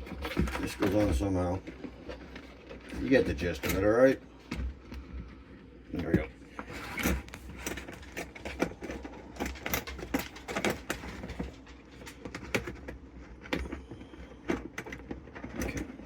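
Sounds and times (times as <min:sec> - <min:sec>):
plastic parts clicking and knocking: 0:00.0 - 0:16.0.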